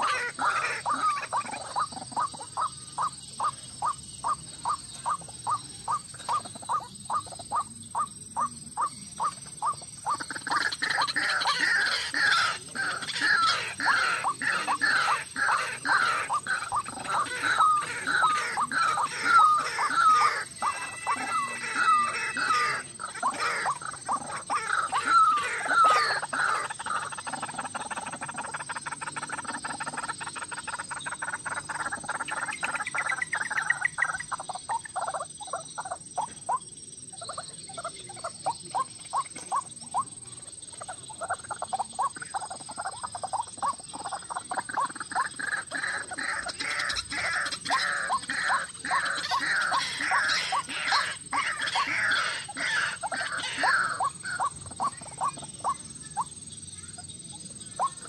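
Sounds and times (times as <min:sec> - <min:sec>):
bird calling repeated notes: 0:00.0 - 0:36.6, 0:40.8 - 0:56.9.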